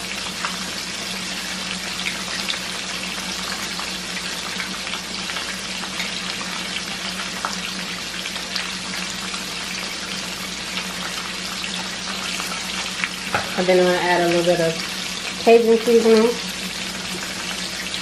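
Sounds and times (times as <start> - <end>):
chicken frying in oil: 0.0 - 18.0
oil popping and crackling: 1.5 - 18.0.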